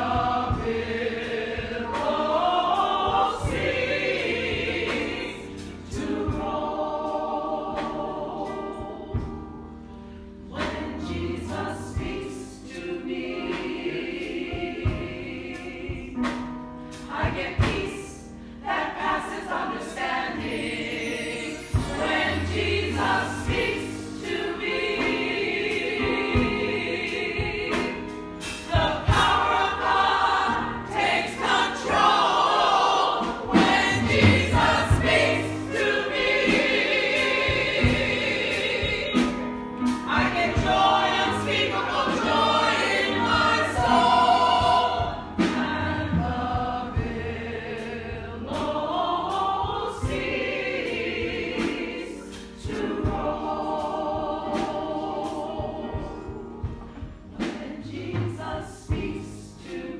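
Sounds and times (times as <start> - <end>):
congregation singing gospel song: 0.0 - 59.9.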